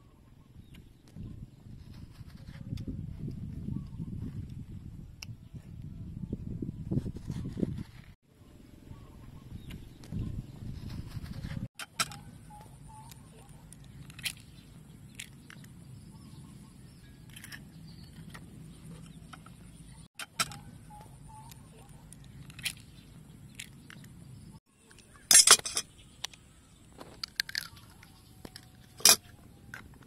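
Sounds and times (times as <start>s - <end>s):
low outdoor hum: 0.0s - 30.0s.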